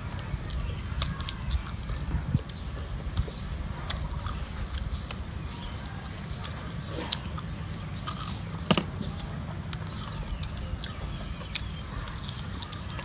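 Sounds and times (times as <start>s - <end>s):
people chewing cake: 0.0s - 13.0s.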